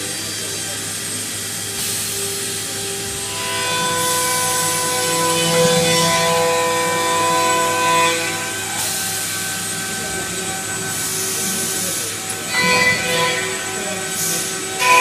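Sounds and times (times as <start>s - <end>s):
cnc router motors whining: 0.0s - 15.0s
hiss of wood cutting: 0.0s - 15.0s.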